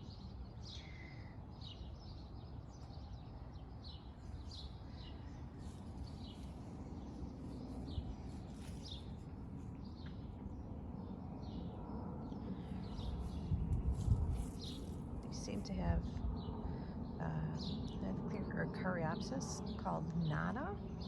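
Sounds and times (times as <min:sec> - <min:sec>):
low steady rumble: 0:03.2 - 0:21.0.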